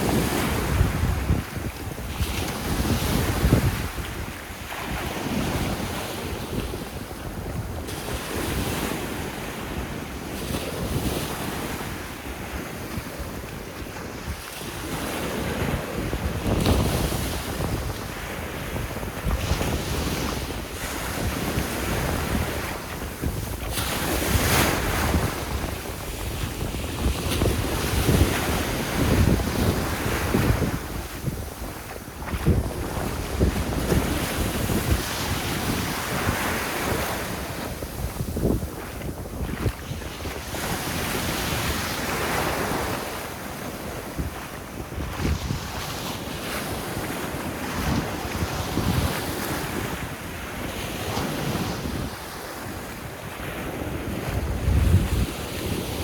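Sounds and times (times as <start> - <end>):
sea waves breaking on beach: 0.0 - 56.0
wind buffeting microphone: 0.0 - 56.0.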